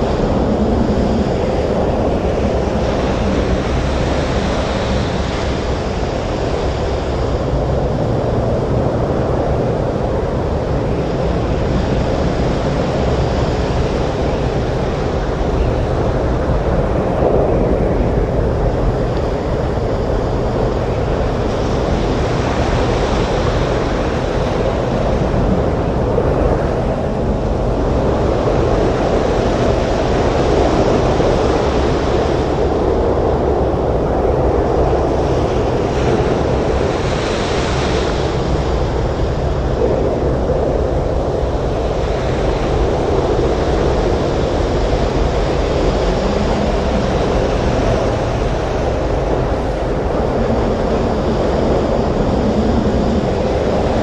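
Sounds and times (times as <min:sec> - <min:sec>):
heavy surf breaking: 0:00.0 - 0:54.0
storm wind: 0:00.0 - 0:54.0.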